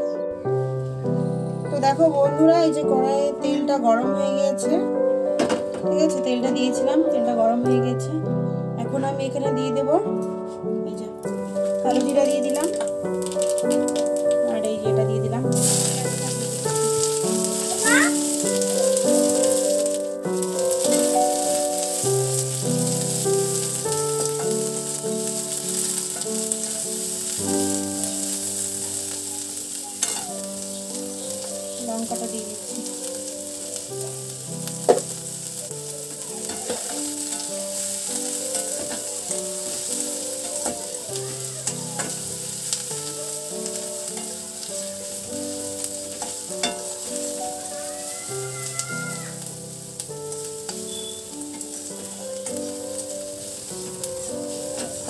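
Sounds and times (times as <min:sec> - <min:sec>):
instrumental background music: 0:00.0 - 0:55.0
onions sizzling in hot oil: 0:00.0 - 0:55.0.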